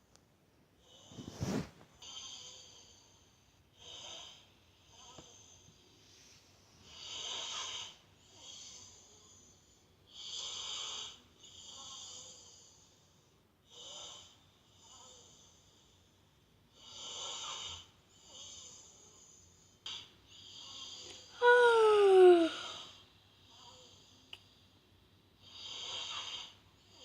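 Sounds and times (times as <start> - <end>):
breathy hissy snoring: 0.8 - 5.8, 6.8 - 23.0, 25.4 - 27.0.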